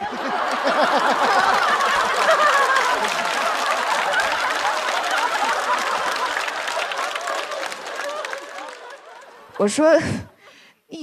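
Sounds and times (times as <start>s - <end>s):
audience clapping: 0.0s - 9.8s
audience laughing: 0.0s - 10.6s.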